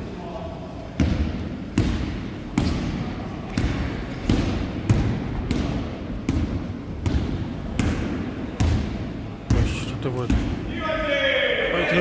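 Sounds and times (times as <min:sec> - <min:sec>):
basketball bouncing on gym floor: 0:01.0 - 0:10.6.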